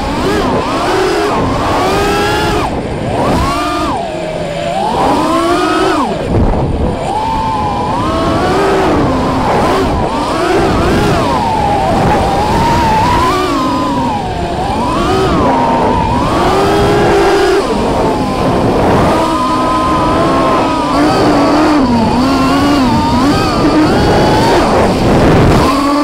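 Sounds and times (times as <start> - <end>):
drone motors whining: 0.0 - 26.0
rushing noise: 0.0 - 26.0.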